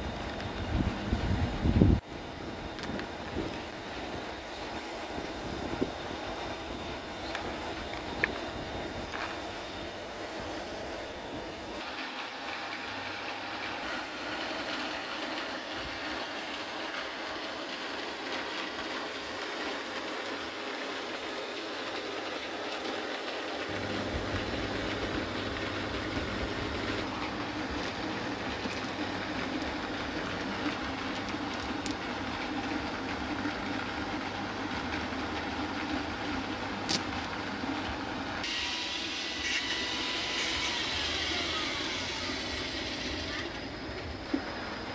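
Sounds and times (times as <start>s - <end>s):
mechanical running noise with rattle: 0.0s - 44.9s.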